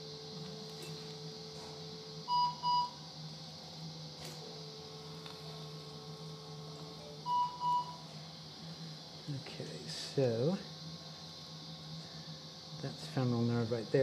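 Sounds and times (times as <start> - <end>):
electrosurgical unit activation tone: 0.0 - 14.0.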